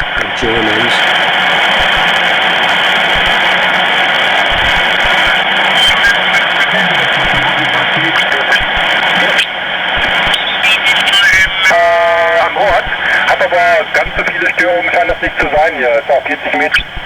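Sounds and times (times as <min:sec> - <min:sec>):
radio static and band noise: 0:00.0 - 0:17.0
weak garbled radio signals: 0:00.0 - 0:17.0.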